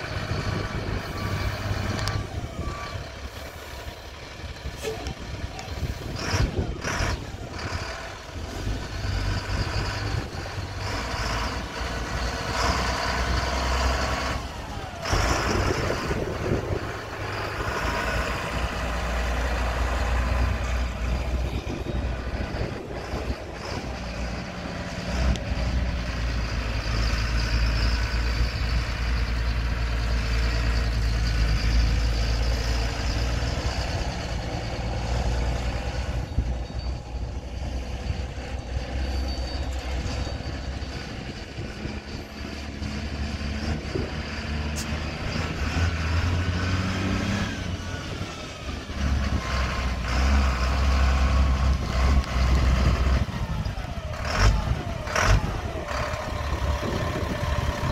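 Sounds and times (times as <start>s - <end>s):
diesel truck engine driving: 0.0s - 57.9s.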